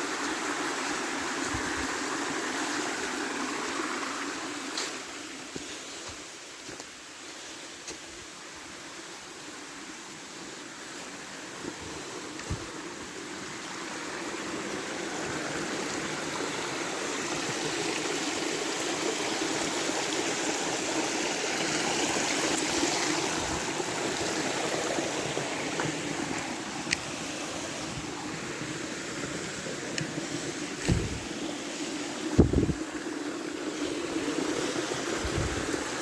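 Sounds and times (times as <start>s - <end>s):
stream water rushing: 0.0s - 36.0s.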